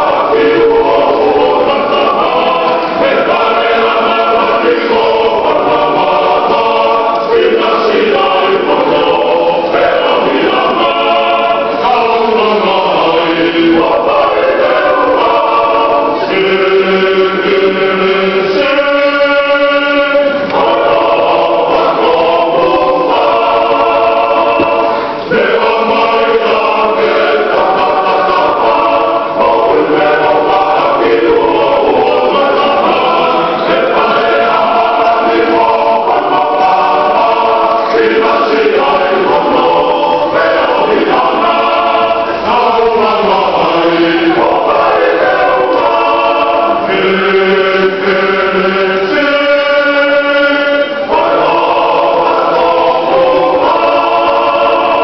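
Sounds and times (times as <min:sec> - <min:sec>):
church choir singing chords: 0:00.0 - 0:55.0.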